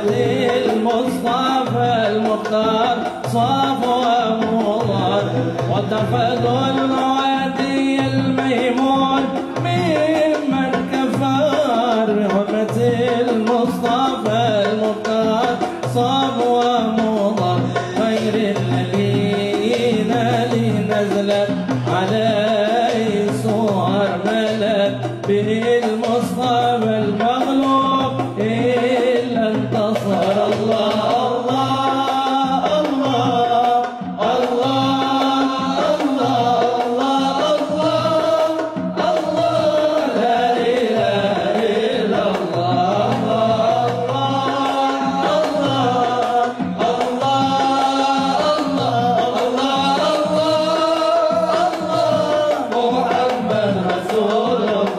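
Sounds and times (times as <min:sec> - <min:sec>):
percussion and music accompaniment: 0:00.0 - 0:54.9
person singing devotional song: 0:00.0 - 0:54.9.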